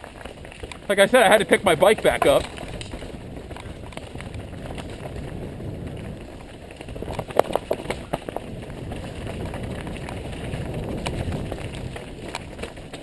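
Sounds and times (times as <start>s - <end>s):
bike rattling over rocks: 0.0s - 13.0s
bike tyres rumbling on dirt: 0.0s - 13.0s
wind on microphone: 0.3s - 13.0s.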